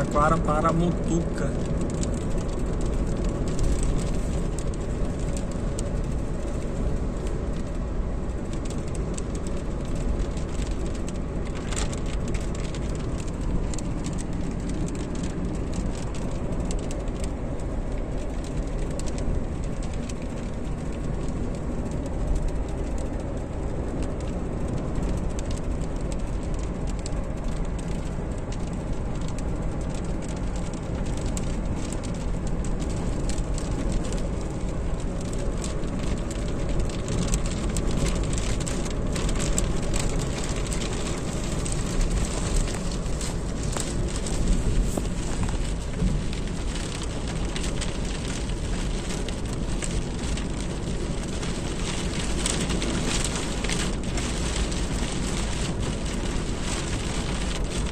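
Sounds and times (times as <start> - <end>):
car road and engine noise: 0.0 - 57.9
raindrops ticking on windshield: 0.0 - 57.9.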